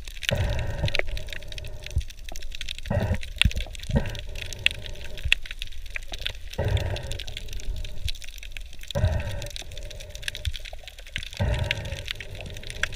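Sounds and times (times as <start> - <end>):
muffled underwater rumble: 0.0 - 12.9
sharp clicks and crackles: 0.0 - 12.9
water swishes: 0.0 - 12.9.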